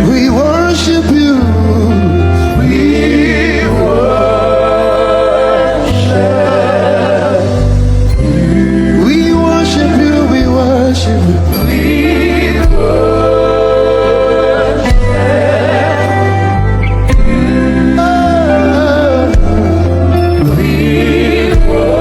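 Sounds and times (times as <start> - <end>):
person singing wavering notes: 0.0 - 22.0
steady bass line: 0.0 - 22.0.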